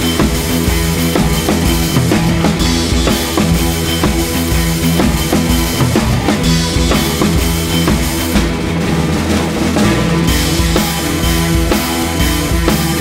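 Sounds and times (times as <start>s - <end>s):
music with drum-kit beat: 0.0s - 13.0s.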